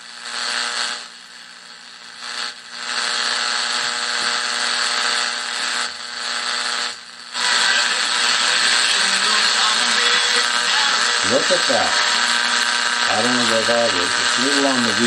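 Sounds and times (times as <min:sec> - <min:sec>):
faint steady hum: 0:00.0 - 0:15.0
radio static hiss: 0:00.0 - 0:15.0.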